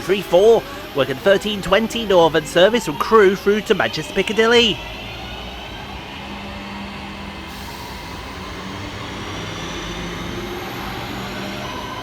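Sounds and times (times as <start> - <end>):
electric train motors humming: 0.0 - 12.0.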